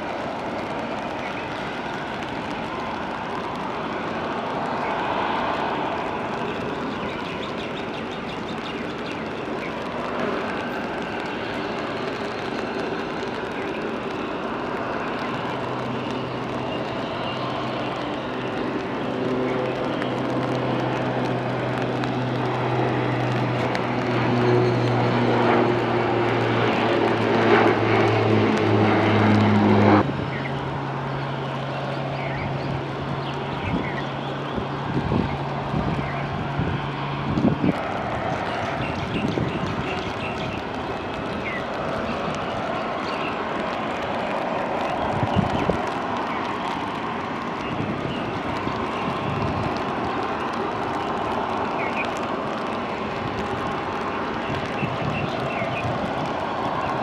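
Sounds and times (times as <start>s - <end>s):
propeller aircraft drone: 0.0s - 57.0s
turboprop engines at takeoff: 0.0s - 57.0s.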